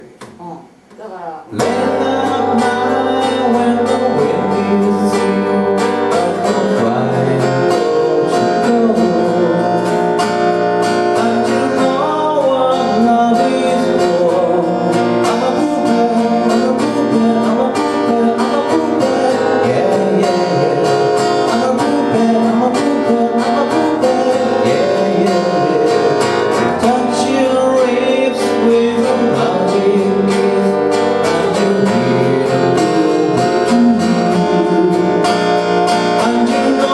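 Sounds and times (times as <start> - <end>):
song with strummed acoustic guitar: 1.1 - 36.9.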